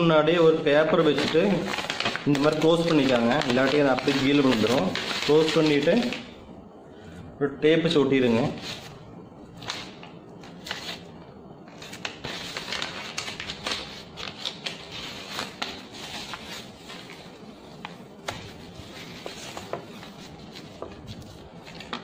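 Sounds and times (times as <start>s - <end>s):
paper crinkling and rustling: 0.3s - 6.3s, 8.5s - 22.0s.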